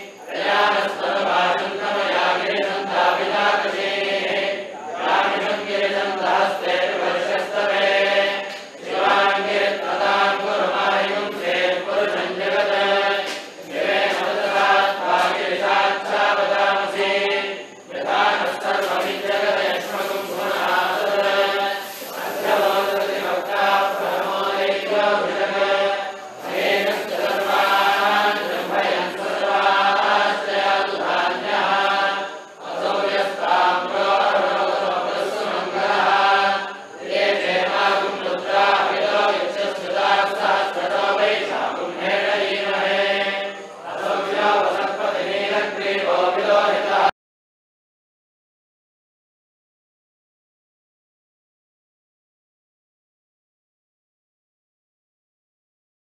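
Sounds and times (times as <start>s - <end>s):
devotional chanting: 0.0s - 47.2s.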